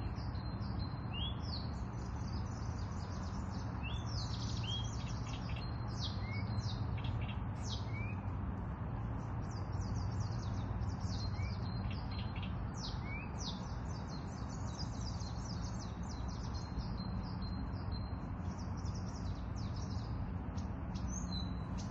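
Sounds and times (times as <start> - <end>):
songbirds chirping and trilling: 0.0 - 21.9.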